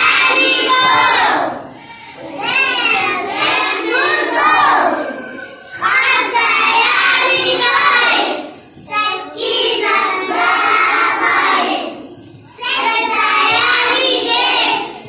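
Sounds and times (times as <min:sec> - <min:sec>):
young children singing: 0:00.0 - 0:15.0.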